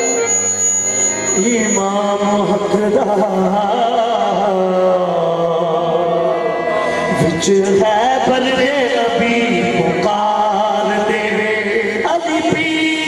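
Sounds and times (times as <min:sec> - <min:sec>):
harmonium drone: 0:00.0 - 0:13.0
person singing ornamented notes: 0:00.0 - 0:13.0.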